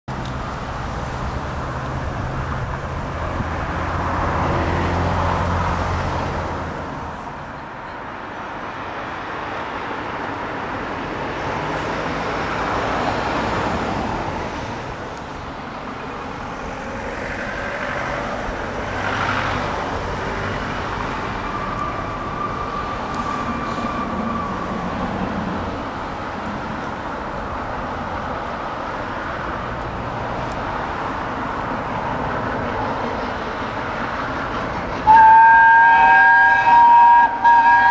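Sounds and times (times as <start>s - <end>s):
vehicles passing: 0.1s - 37.9s.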